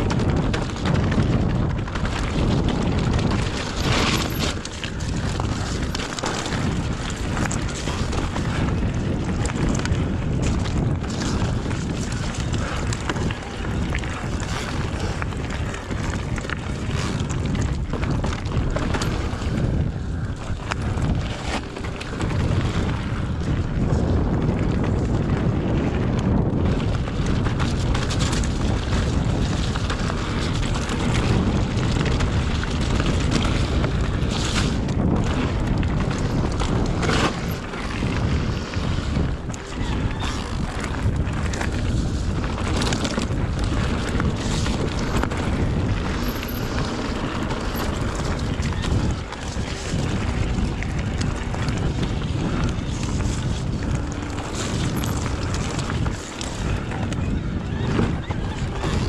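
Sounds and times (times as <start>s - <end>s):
bike knocking and rattling: 0.0s - 59.0s
bike tyres on dirt: 0.0s - 59.0s
wind on microphone: 0.0s - 59.0s.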